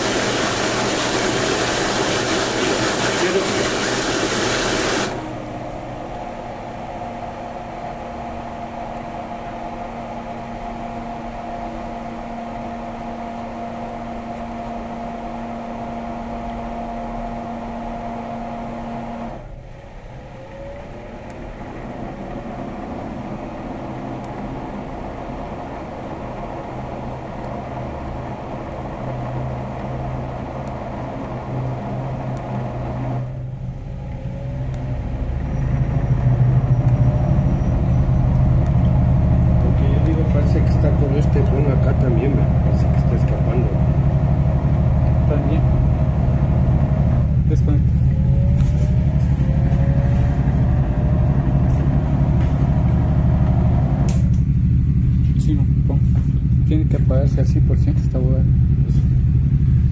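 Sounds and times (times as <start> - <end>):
machine running with held tones: 0.0 - 59.9
deep hum: 5.0 - 59.9.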